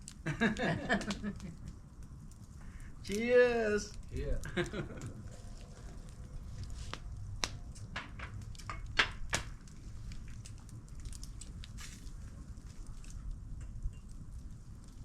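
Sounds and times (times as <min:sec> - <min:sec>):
fire crackling: 0:00.0 - 0:15.0
steady low rumble: 0:00.0 - 0:15.0.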